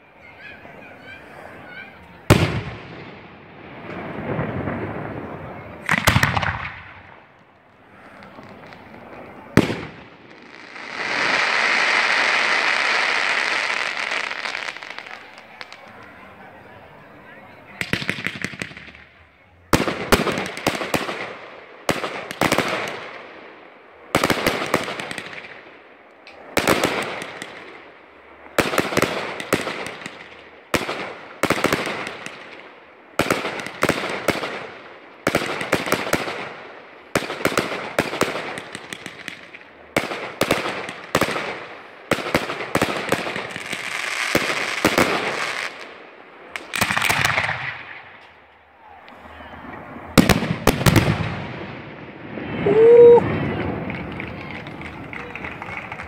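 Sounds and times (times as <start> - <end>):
fireworks bangs with crackling: 0.8 - 16.7, 17.5 - 56.0.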